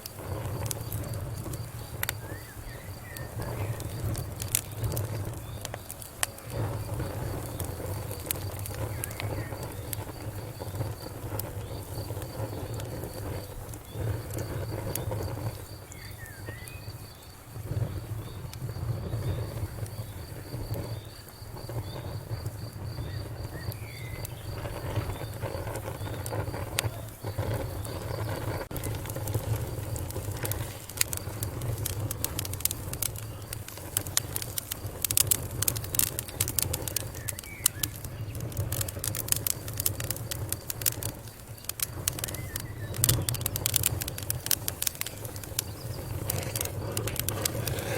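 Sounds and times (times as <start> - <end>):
wood fire crackling and popping: 0.0 - 47.9
insect trilling: 0.1 - 17.4, 18.2 - 47.9.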